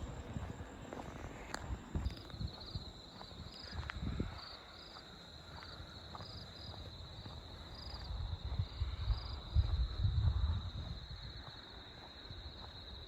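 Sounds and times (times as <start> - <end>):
insect chirps: 0.0 - 13.0
insects trilling: 0.0 - 13.0.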